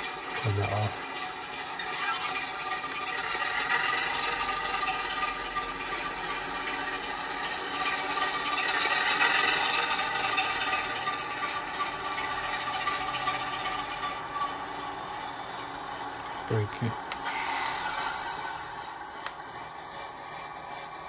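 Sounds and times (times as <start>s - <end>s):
model train whirring and rattling: 0.0s - 21.0s.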